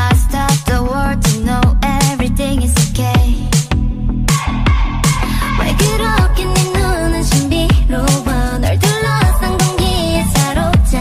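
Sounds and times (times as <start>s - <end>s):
women singing: 0.0s - 3.7s, 4.3s - 11.0s
electronic beat: 0.0s - 11.0s
sliding bass: 0.0s - 11.0s.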